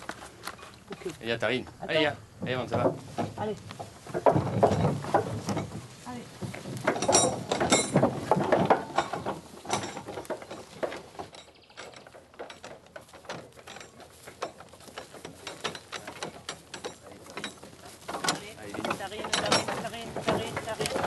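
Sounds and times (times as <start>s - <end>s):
wooden cart rattling: 2.0s - 21.0s.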